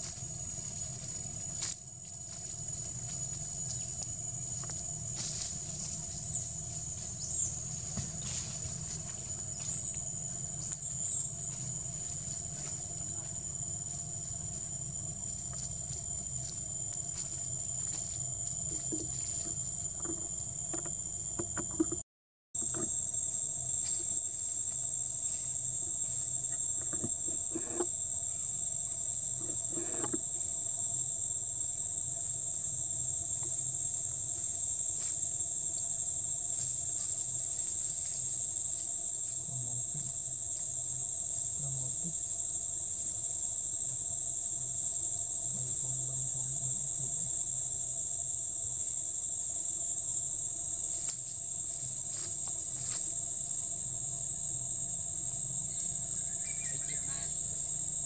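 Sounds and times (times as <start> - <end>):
insects shrilling: 0.0 - 22.0, 22.6 - 58.0.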